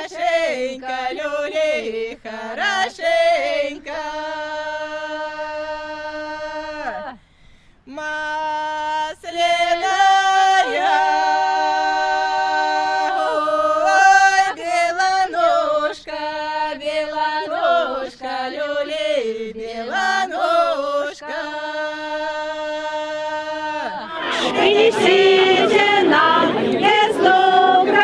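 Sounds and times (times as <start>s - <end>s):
voices singing unaccompanied: 0.0s - 7.2s, 7.9s - 28.0s.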